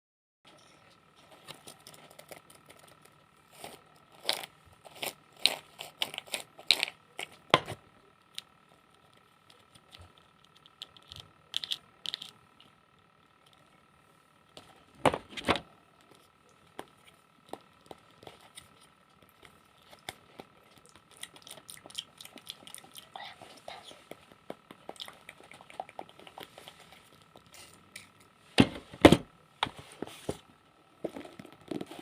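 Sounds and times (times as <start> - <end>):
faint steady hum: 0.5 - 32.0.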